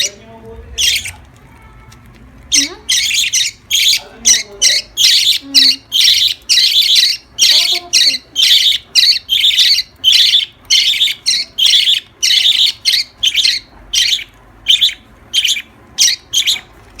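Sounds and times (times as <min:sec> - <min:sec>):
lovebirds rasping chirps: 0:00.0 - 0:01.3, 0:01.9 - 0:17.0.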